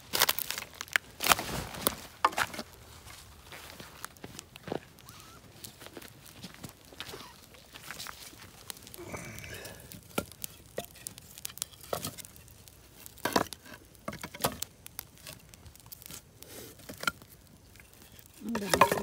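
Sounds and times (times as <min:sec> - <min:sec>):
campfire crackling and popping: 0:00.0 - 0:19.0
sticks laid on fire: 0:00.0 - 0:19.0.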